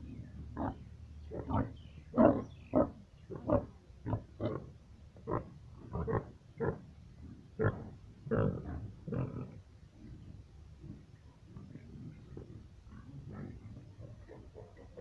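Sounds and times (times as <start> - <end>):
pigs grunting: 0.5 - 6.8, 7.6 - 15.0.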